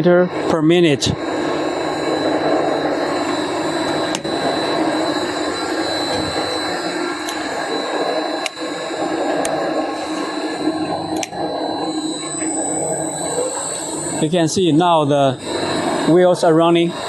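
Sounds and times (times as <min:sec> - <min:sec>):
motors humming with high whine: 0:00.0 - 0:17.0.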